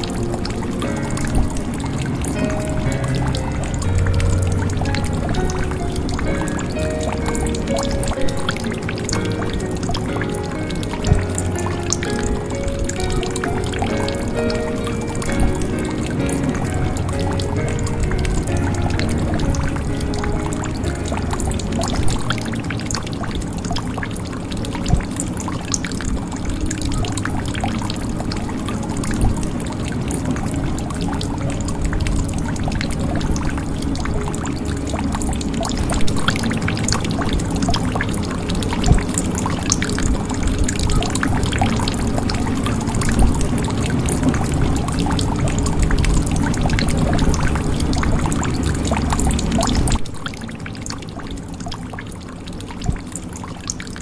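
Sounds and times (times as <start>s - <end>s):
water pouring into a jug: 0.0s - 54.0s.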